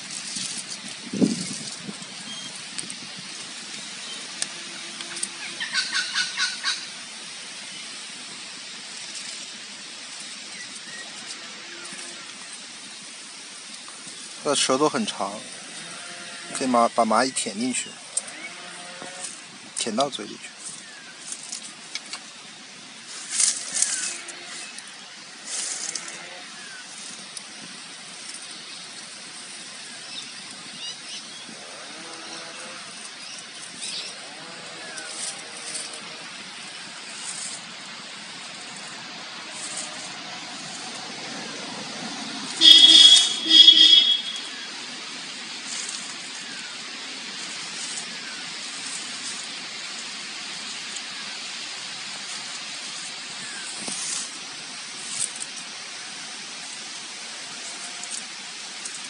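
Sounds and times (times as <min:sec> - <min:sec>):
faint crackles: 0:00.0 - 0:16.8, 0:17.4 - 0:59.0
animal rustling in dry leaves: 0:00.0 - 0:59.0
outdoor background hiss: 0:00.0 - 0:59.0.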